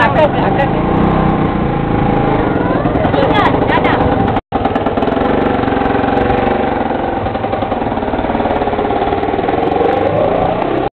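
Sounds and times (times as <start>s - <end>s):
engine running: 0.0s - 10.9s.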